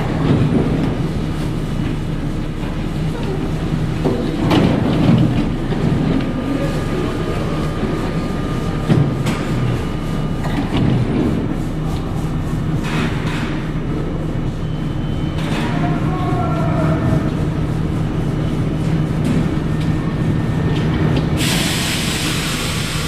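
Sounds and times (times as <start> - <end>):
subway train rumble and hum: 0.0 - 23.0.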